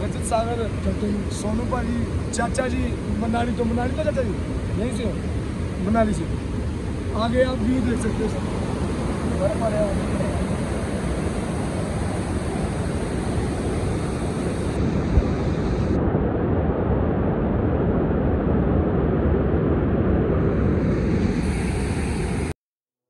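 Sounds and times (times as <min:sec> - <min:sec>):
wind buffeting microphone: 0:00.0 - 0:22.5.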